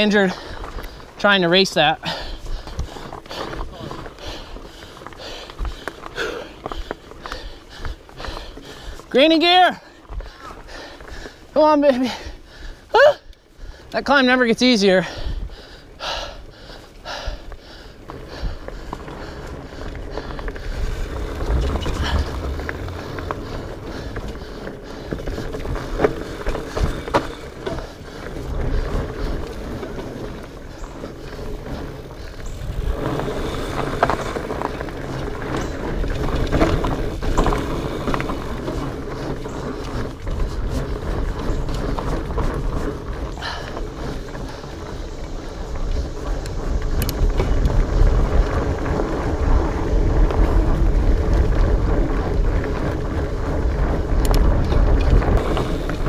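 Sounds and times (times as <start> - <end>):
bike rattling over rocks: 0.0 - 12.5, 17.0 - 56.0
bike tyres rolling: 0.0 - 56.0
low rumble of wind: 0.0 - 56.0.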